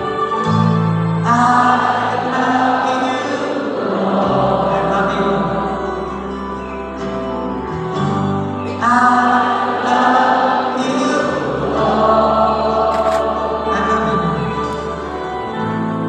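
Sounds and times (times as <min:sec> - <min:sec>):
choir singing: 0:00.0 - 0:06.4, 0:08.9 - 0:15.6.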